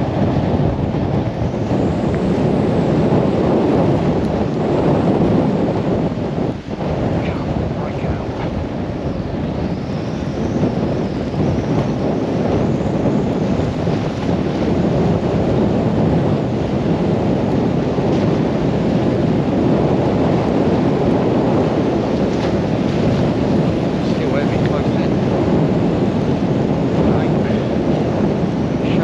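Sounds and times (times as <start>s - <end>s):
storm wind buffeting microphone: 0.0s - 29.0s.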